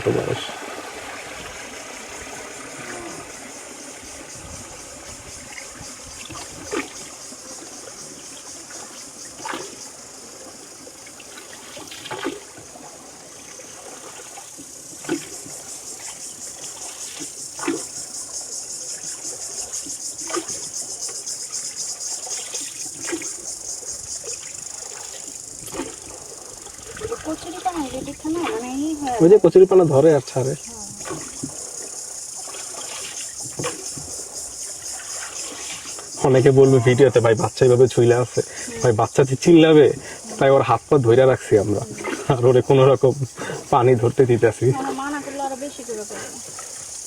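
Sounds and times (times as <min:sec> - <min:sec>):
short splashes: 0:00.0 - 0:07.9, 0:08.6 - 0:21.2, 0:22.0 - 0:46.9
water splashing against boat: 0:00.0 - 0:47.0.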